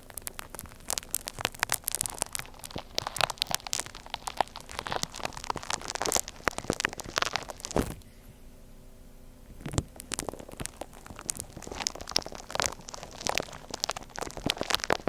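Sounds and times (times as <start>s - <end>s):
slime squished crunchy crackling: 0.0s - 8.2s, 9.4s - 15.0s.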